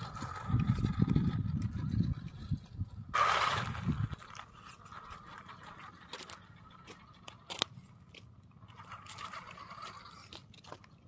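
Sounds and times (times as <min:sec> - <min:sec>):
tyres crunching over dirt: 0:00.0 - 0:11.0.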